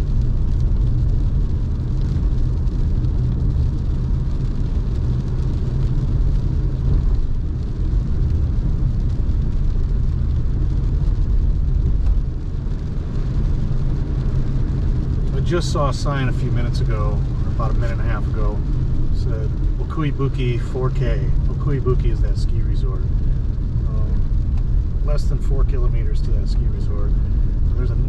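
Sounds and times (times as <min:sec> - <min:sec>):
car driving on wet road: 0:00.0 - 0:28.0.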